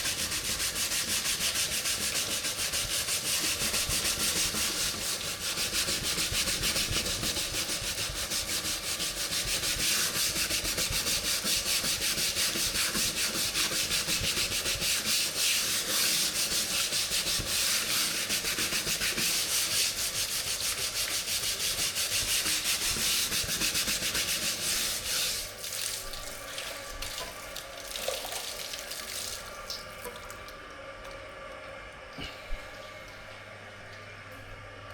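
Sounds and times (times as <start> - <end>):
scrubbing a surface: 0.0 - 29.5.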